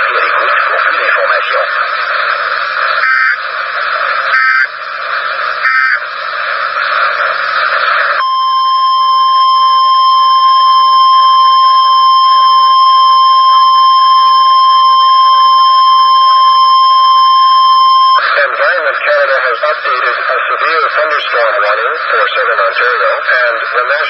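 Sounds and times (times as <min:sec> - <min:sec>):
radio static: 0:00.0 - 0:08.4, 0:09.7 - 0:24.0
loud steady high alarm tone: 0:00.1 - 0:24.0.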